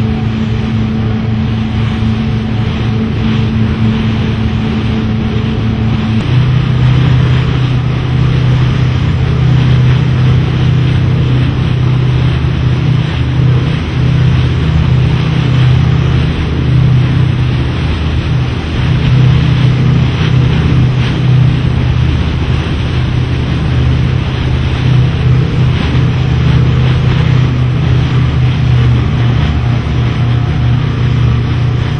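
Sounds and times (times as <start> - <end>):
boat engine low rumble: 0.0 - 31.9
rushing water: 0.0 - 31.9
wind noise on microphone: 0.0 - 31.9.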